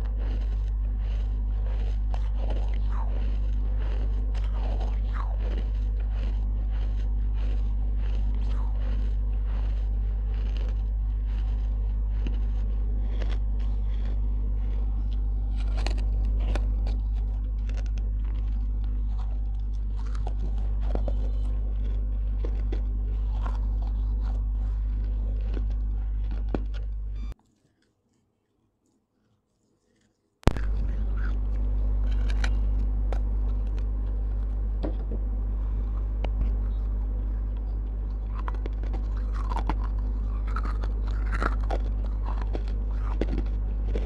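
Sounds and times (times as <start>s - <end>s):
steady low hum: 0.0s - 27.4s, 29.8s - 44.0s
chewing crunchy clay pieces: 0.0s - 44.0s.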